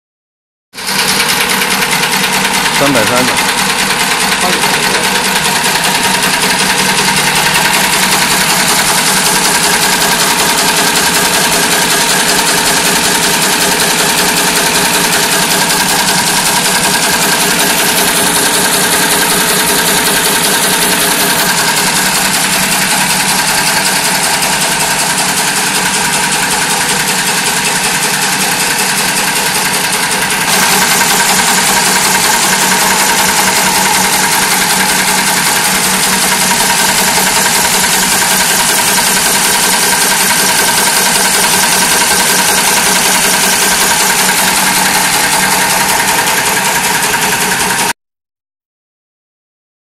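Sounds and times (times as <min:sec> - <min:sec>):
machine mechanical clatter: 0:00.8 - 0:47.9.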